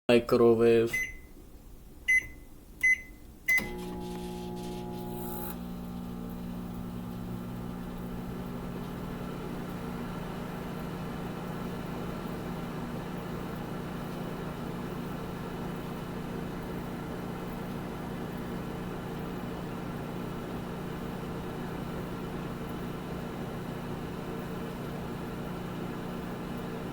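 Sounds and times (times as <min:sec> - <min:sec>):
microwave oven humming: 0:02.1 - 0:26.9.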